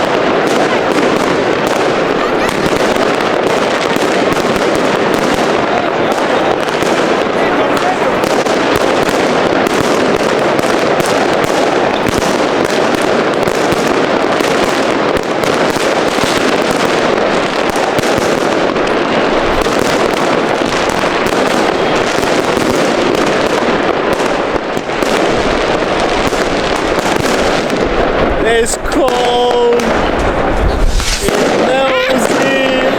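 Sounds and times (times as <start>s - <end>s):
fireworks crackling and banging: 0.0s - 32.9s.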